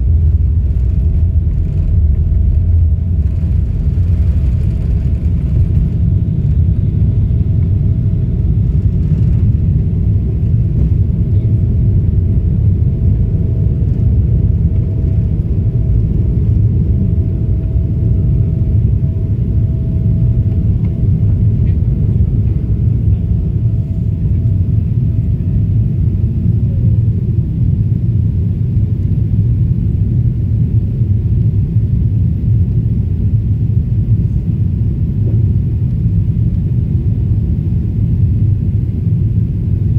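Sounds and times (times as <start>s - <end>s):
faint steady whine: 0.0s - 39.9s
jet engines rumbling: 0.0s - 39.9s.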